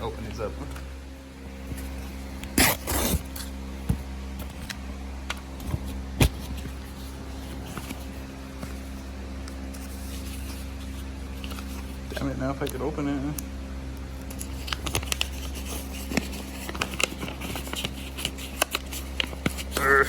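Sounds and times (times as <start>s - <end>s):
paper envelopes rustling: 0.0s - 20.0s
steady low hum: 0.0s - 20.0s.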